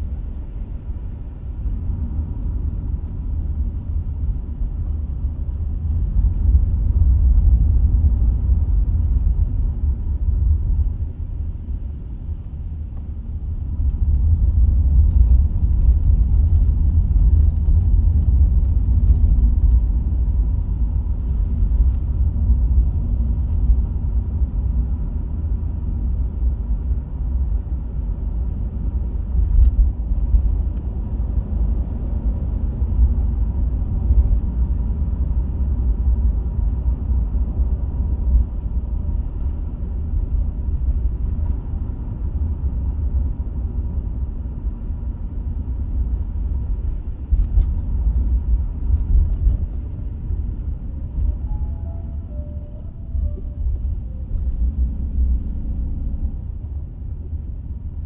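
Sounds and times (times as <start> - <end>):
road and tyre noise rumble: 0.0 - 58.0.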